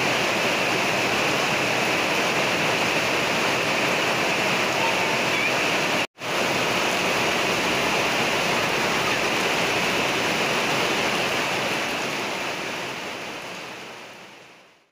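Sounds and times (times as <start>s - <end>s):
heavy rain hissing: 0.0s - 14.9s.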